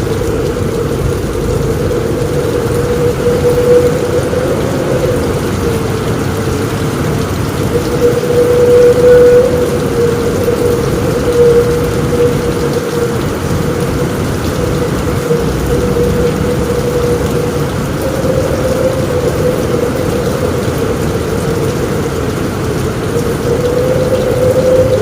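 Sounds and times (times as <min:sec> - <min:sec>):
constant low tone: 0:00.0 - 0:25.0
heavy rain drumming on a roof: 0:00.0 - 0:25.0.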